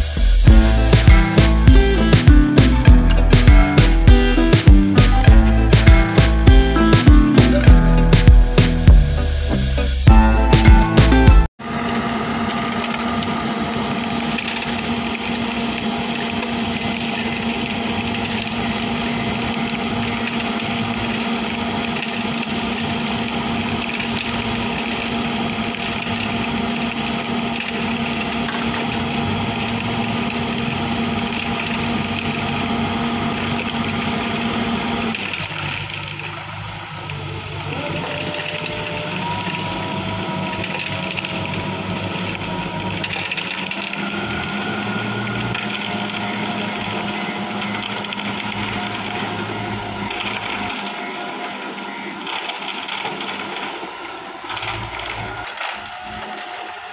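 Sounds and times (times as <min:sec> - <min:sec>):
diesel engine humming: 0:00.0 - 0:52.3.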